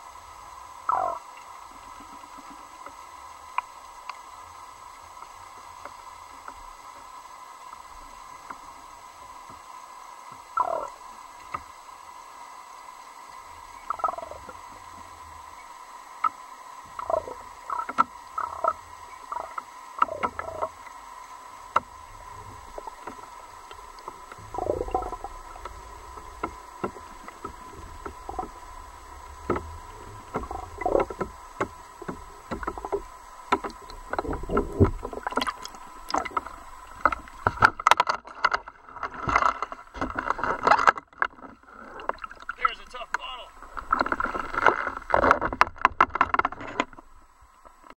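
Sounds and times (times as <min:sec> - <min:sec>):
faint underwater hum: 0:00.0 - 0:47.9
underwater gurgling: 0:00.0 - 0:47.9.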